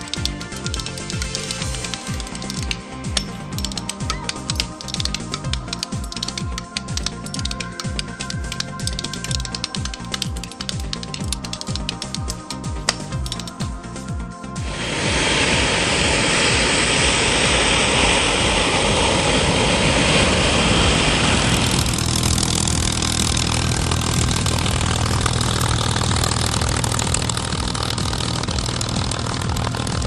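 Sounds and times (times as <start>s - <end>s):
jet engine whining: 0.0s - 30.0s
piston engine droning: 0.0s - 30.0s.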